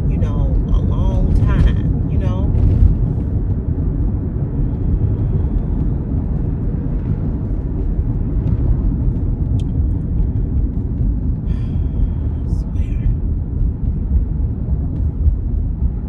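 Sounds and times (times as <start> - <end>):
car engine rumble from inside: 0.0 - 16.0.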